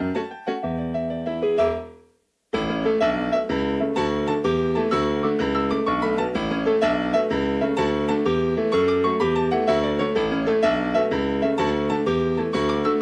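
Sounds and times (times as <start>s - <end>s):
piano music: 0.0s - 2.0s, 2.6s - 13.0s.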